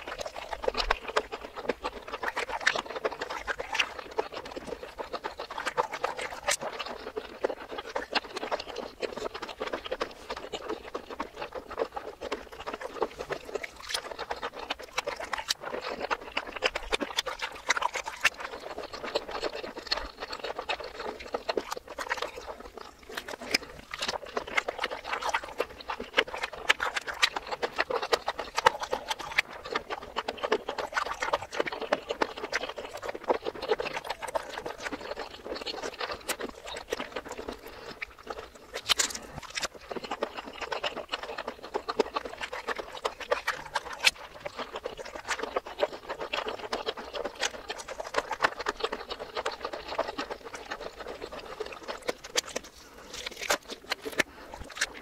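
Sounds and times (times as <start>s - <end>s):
reversed chewing and mouth sounds: 0.0s - 55.0s.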